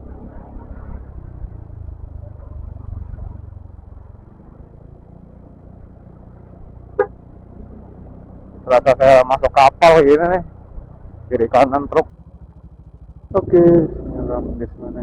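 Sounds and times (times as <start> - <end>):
traffic engines humming: 0.0 - 15.0.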